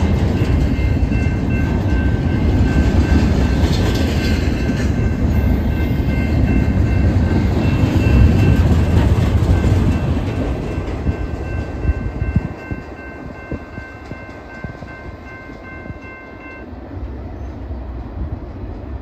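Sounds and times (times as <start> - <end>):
crossing bell ringing: 0.0 - 16.7
freight train rumbling and clacking: 0.0 - 19.0.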